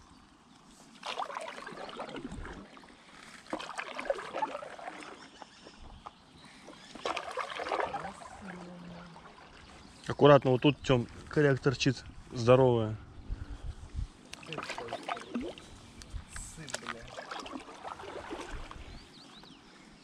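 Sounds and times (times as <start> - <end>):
paddle splashing in river water: 0.6 - 11.3, 14.2 - 19.6.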